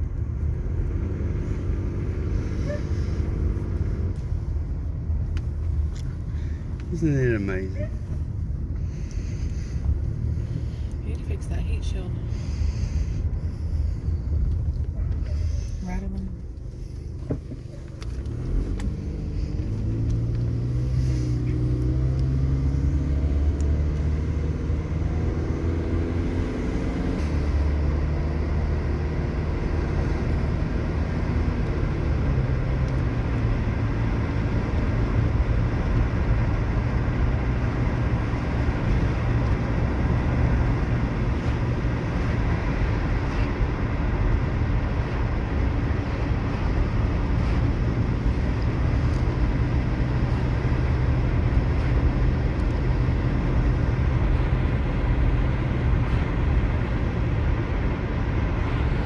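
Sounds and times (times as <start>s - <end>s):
car engine revving through gears: 0.0s - 6.2s, 6.8s - 59.0s
road noise: 0.0s - 59.0s.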